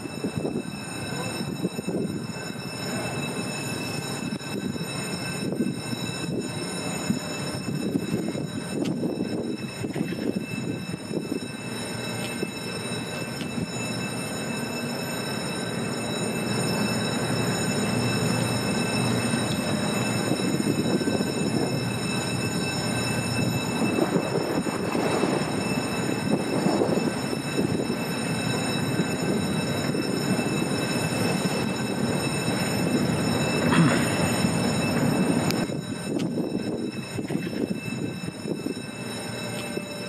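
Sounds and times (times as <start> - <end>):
faint high whines: 0.0 - 40.0
ship engines rumbling: 0.0 - 40.0.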